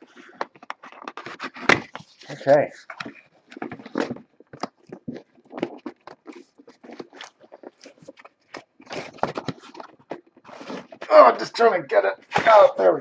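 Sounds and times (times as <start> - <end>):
cardboard box rustling and scraping: 0.2 - 11.0.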